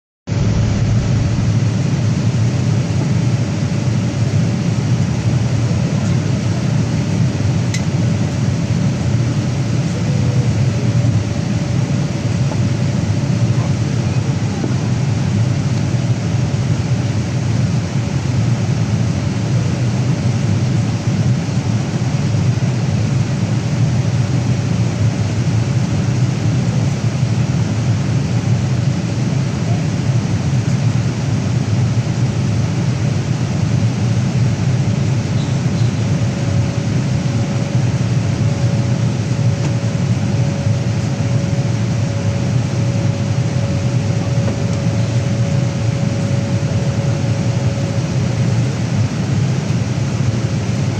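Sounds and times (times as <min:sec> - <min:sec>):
airplane cabin airflow and engine: 0:00.3 - 0:50.9.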